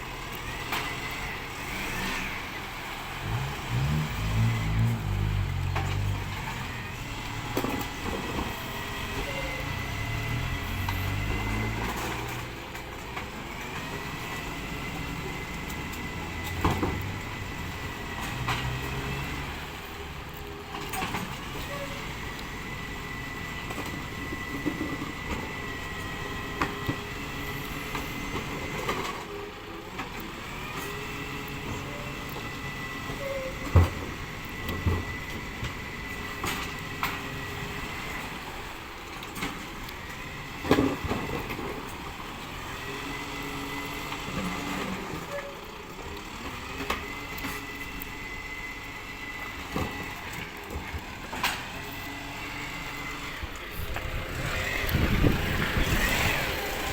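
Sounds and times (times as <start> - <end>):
truck engine running: 0.0 - 56.9.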